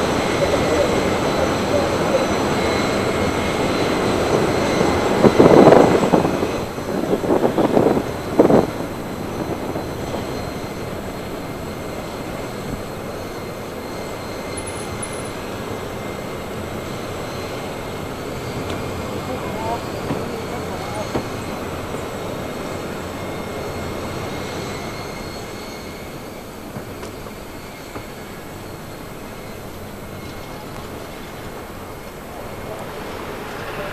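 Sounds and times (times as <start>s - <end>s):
aircraft engines rushing: 0.0s - 33.9s.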